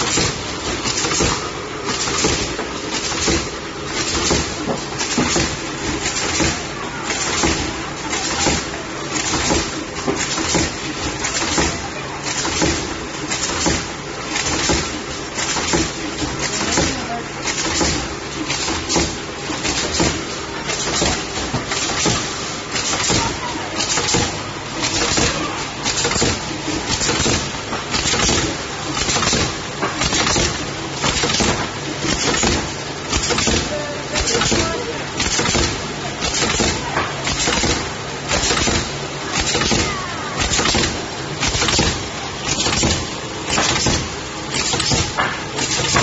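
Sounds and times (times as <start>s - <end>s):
machine mechanical din: 0.0s - 46.0s
pneumatic hissing clacks: 0.0s - 46.0s.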